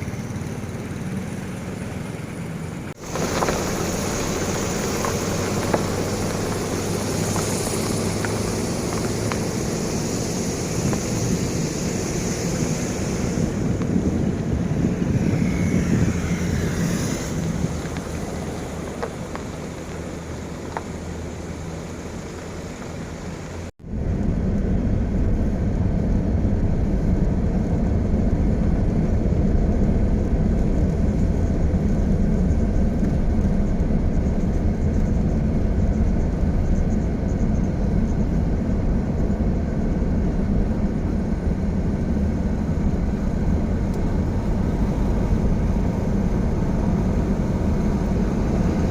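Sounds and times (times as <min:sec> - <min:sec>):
road traffic rumble: 0:00.0 - 0:48.9
wind: 0:00.0 - 0:48.9.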